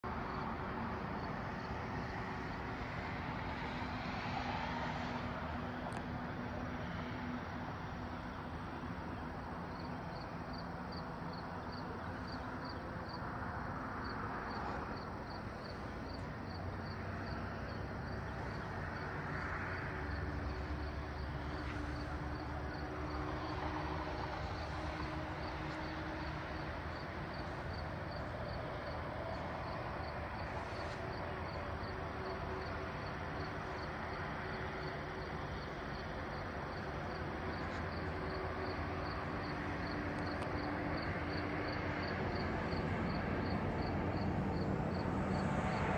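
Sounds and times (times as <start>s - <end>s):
crickets chirping: 0.2s - 0.5s, 9.2s - 45.9s.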